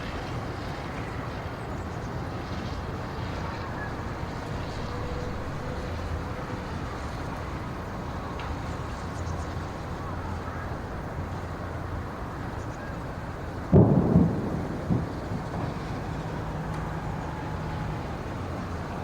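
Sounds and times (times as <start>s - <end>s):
low rumbling outdoor noise: 0.0s - 19.0s.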